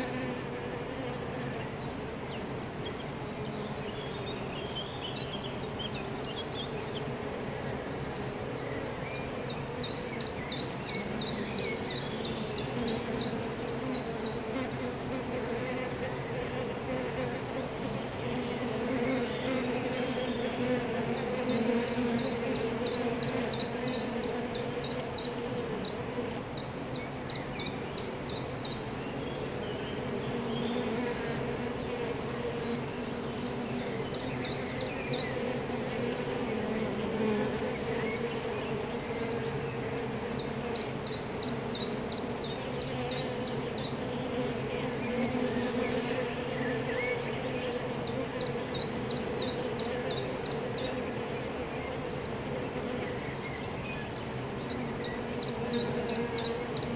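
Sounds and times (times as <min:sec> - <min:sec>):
bees buzzing: 0:00.0 - 0:56.9.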